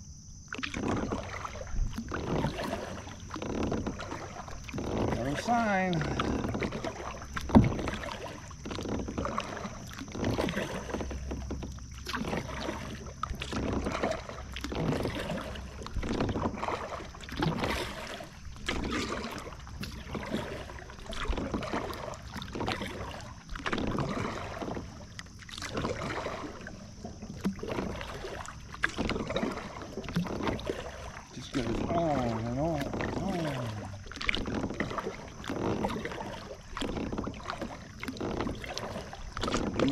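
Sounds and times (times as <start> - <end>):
paddle splashing in water: 0.5 - 39.9.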